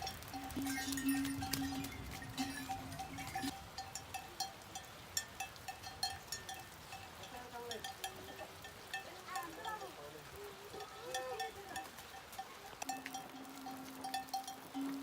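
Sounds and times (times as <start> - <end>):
animal bells clinking: 0.0 - 15.0.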